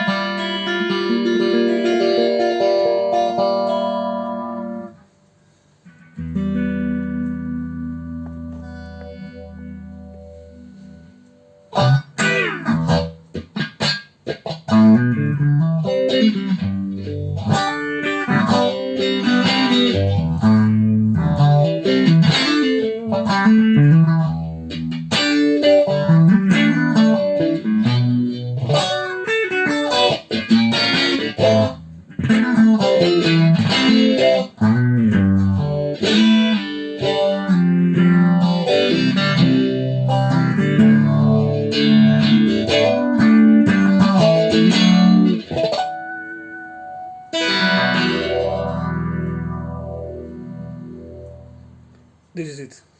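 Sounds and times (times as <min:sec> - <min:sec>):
electric guitar with phaser: 0:00.0 - 0:05.2, 0:05.8 - 0:52.3.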